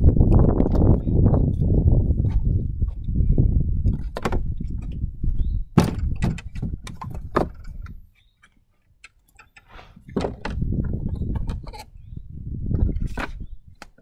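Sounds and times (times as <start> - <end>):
wooden knocks and clunks: 0.3 - 8.2, 9.4 - 11.9, 12.6 - 14.0.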